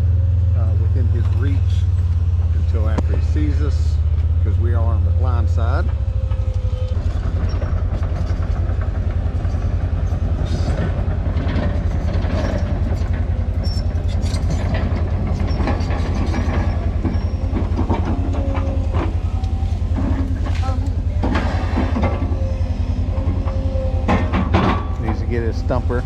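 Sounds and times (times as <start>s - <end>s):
diesel excavator engine rumbling: 0.0s - 26.0s
metal clanks: 0.7s - 26.0s
squeals from tracks: 1.2s - 26.0s.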